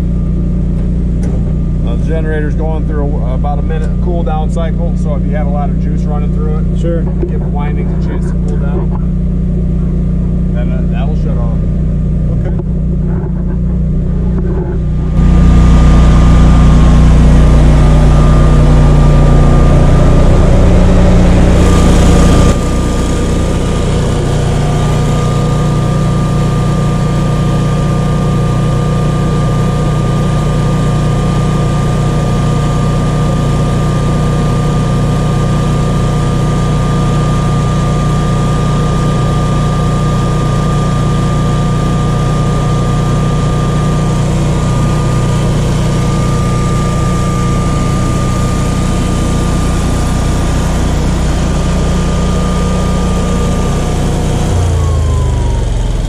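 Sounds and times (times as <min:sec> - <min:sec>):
generator engine humming: 0:00.0 - 0:56.0
high whine: 0:00.0 - 0:56.0.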